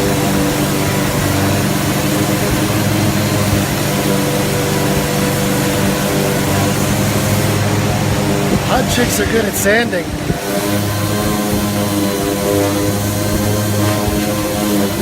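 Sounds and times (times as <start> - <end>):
generator humming: 0.0 - 15.0
orbital sander on metal: 0.0 - 15.0.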